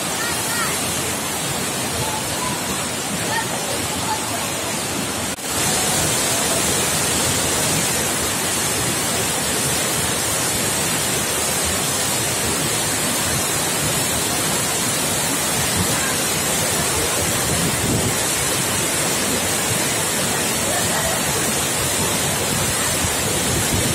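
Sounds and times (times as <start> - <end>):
waterfall pouring onto rocks: 0.0 - 23.9.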